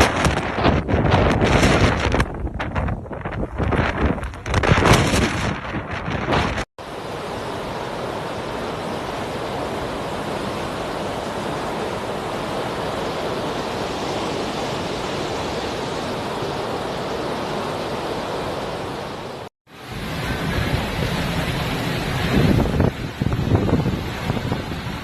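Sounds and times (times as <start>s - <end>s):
strong wind: 0.0s - 25.0s.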